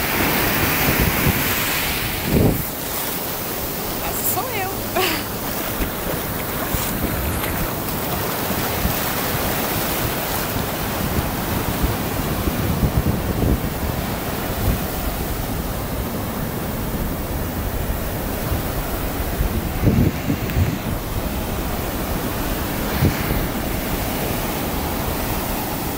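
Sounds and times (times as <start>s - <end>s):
sea waves breaking on shore: 0.0s - 25.9s
wind buffeting microphone: 0.0s - 25.9s.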